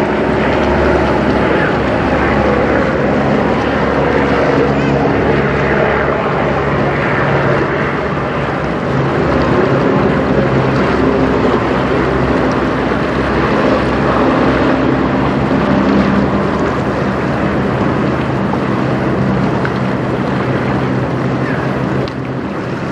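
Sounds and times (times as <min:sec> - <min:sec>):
even rushing noise: 0:00.0 - 0:22.9
low engine drone: 0:00.0 - 0:22.9.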